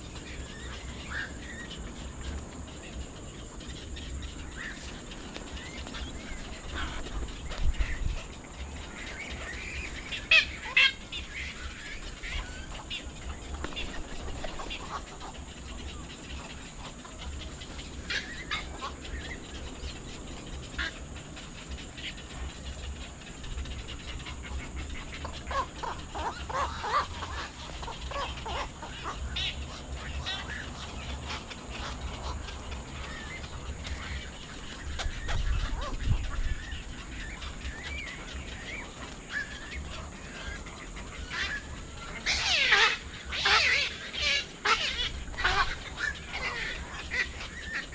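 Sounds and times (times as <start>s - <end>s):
bird calls and chirps: 0.0s - 47.9s.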